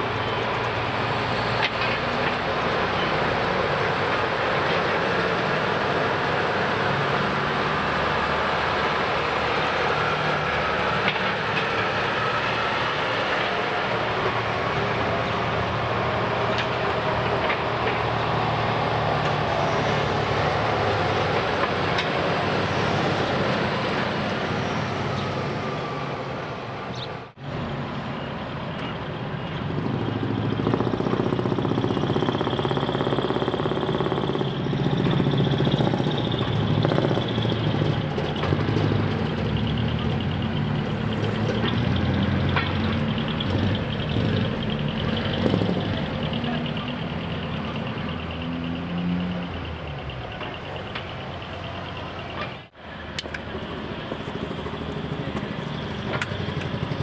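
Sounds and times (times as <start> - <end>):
truck diesel engines running: 0.0 - 57.0.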